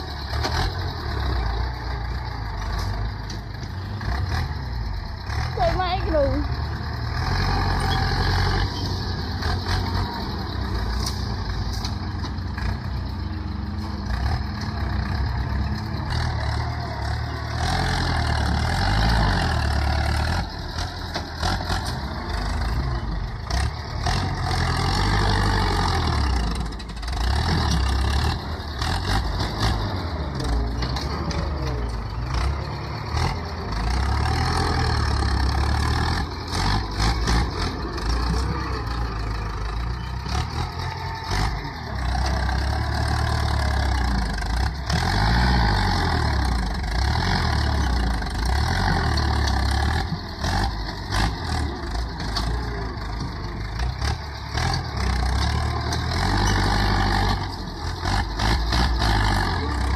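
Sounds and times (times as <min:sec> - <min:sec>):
dozer blade pushing soil: 0:00.0 - 0:59.9
tractor diesel engine under load: 0:00.0 - 0:59.9.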